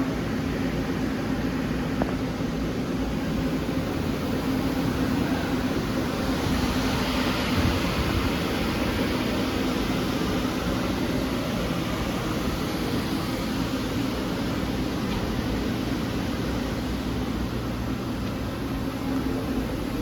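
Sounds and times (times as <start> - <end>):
fan-like hiss: 0.0 - 20.0.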